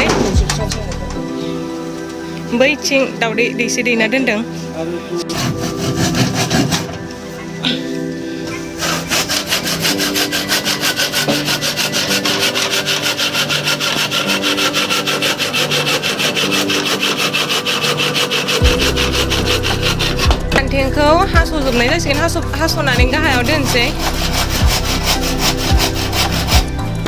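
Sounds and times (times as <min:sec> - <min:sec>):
faint background tune: 0:00.0 - 0:27.0
rhythmic rasping strokes: 0:00.0 - 0:27.0.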